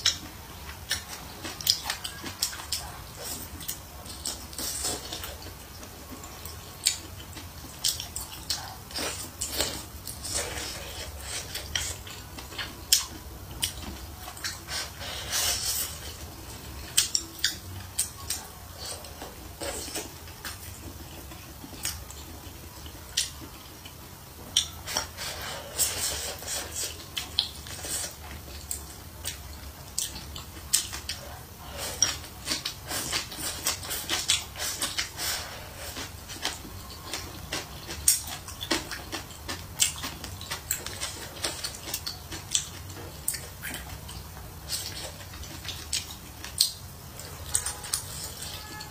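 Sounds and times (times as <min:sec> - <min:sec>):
chewing: 0:00.0 - 0:48.9.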